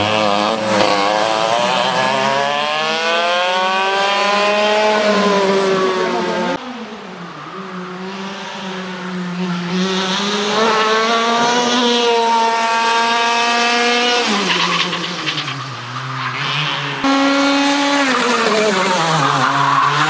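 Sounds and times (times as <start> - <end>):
racing kart engine: 0.0 - 20.0.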